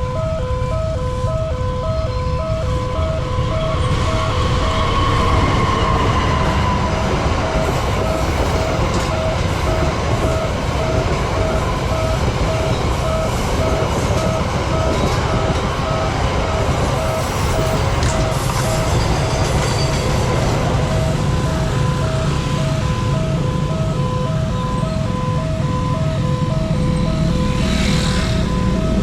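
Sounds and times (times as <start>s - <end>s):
level crossing warning beeps: 0.0s - 29.0s
train rumbling over crossing: 0.0s - 29.0s.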